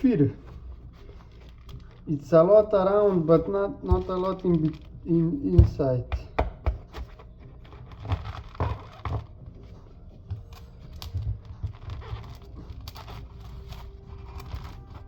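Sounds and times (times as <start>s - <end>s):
coconut husk tearing and crackling: 0.0s - 15.0s.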